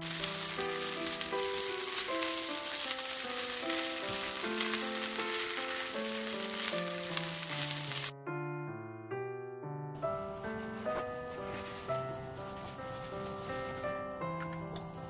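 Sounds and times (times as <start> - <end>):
food sizzling in a wok: 0.0 - 8.1, 10.2 - 15.0
spatula stirring: 0.0 - 8.1, 10.3 - 14.8
soft piano music: 0.0 - 15.0.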